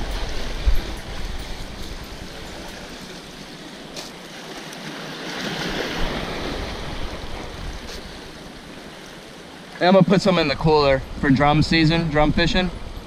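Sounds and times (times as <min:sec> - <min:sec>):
waves splashing on rocks: 0:00.0 - 0:10.5.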